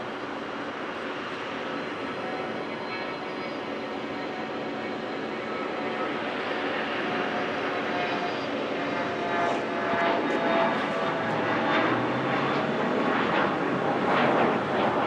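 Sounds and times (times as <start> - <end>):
aircraft engines running: 0.0 - 15.0.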